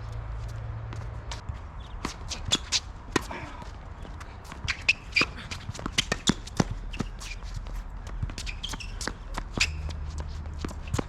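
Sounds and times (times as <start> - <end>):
shoes scuffing on a court: 0.0 - 11.0.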